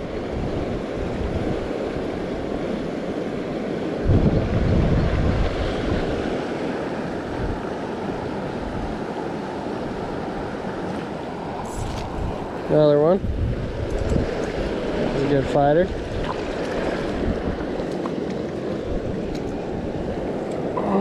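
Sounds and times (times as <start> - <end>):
creek water rushing: 0.0 - 21.0
wind buffeting microphone: 0.0 - 21.0.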